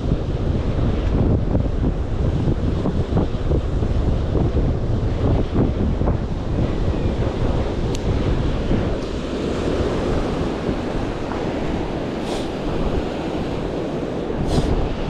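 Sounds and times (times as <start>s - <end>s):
ocean surf on rocks: 0.0s - 15.0s
wind buffeting microphone: 0.0s - 15.0s.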